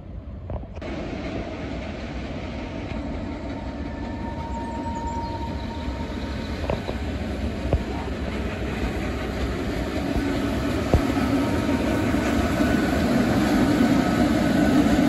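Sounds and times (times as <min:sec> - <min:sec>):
rail vehicle running on track: 0:00.0 - 0:15.0.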